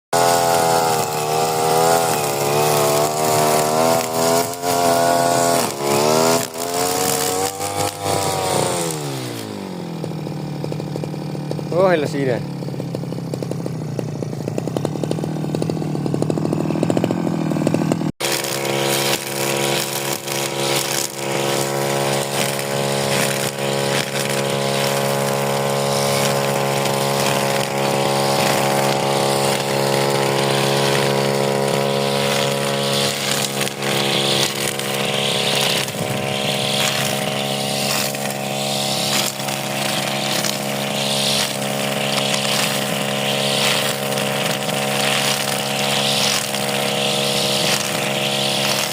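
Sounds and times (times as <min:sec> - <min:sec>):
brush cutter engine running: 0:00.0 - 0:48.9.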